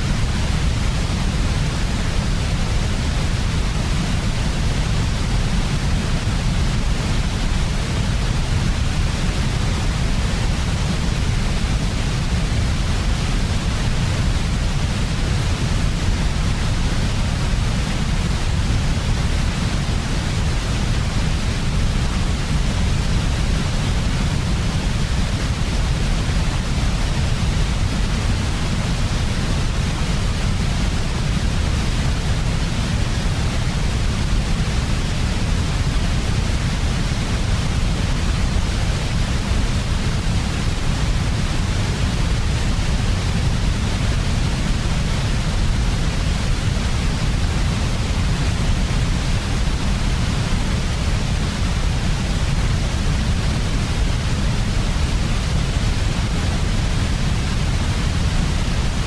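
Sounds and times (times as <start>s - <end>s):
low rumbling sleep noise with hiss: 0.0s - 59.0s.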